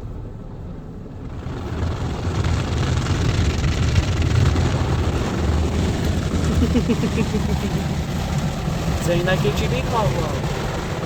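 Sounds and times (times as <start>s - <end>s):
car wash rushing noise: 0.0s - 11.0s
low rumble: 0.0s - 11.0s.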